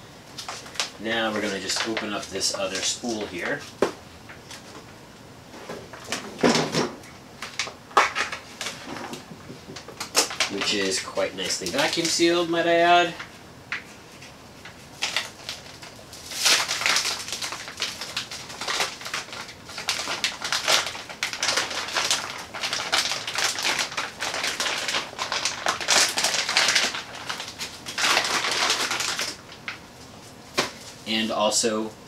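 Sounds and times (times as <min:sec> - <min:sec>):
plastic bag crinkling: 0:00.4 - 0:03.8, 0:07.4 - 0:13.2, 0:14.1 - 0:31.1.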